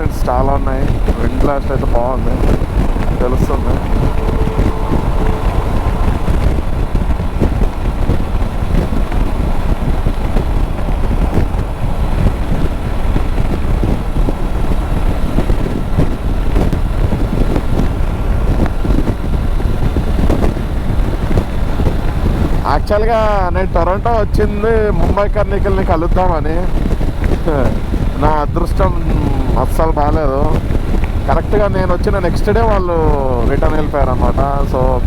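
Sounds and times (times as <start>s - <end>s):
motorcycle engine cruising: 0.0s - 34.9s
wind on microphone: 0.0s - 35.0s.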